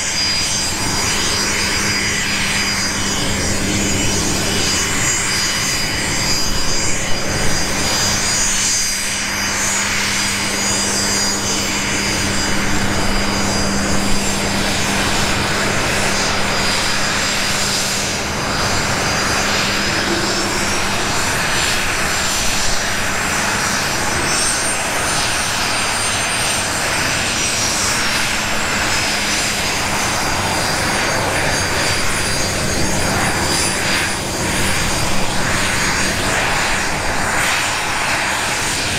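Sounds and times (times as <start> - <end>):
high-pitched compressor tones: 0.0 - 36.1
jet engine whine: 0.0 - 38.9.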